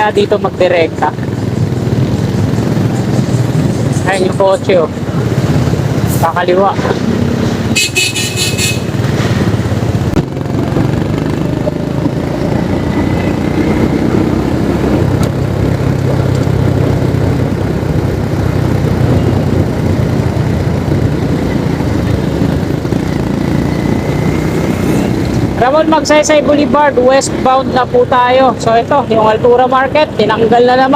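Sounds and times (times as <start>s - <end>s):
road and traffic noise: 0.0s - 30.9s
vehicle engine running: 0.0s - 30.9s.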